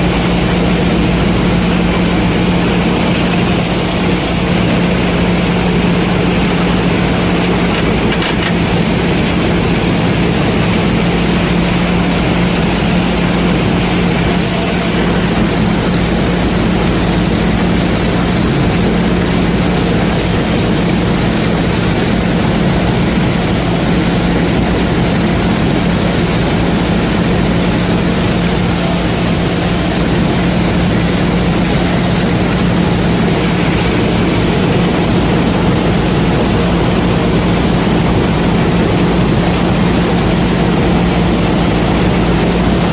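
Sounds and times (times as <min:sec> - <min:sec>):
combine harvester engine hum: 0:00.0 - 0:42.9
harvester mechanical noise: 0:00.0 - 0:42.9.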